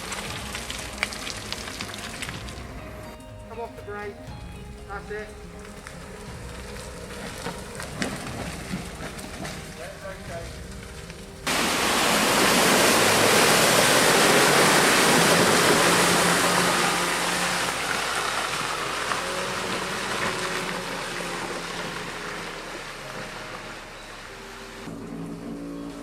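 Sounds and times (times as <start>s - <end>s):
water splashing: 0.0s - 3.7s, 4.4s - 25.7s
faint vehicle engine running: 4.2s - 26.0s.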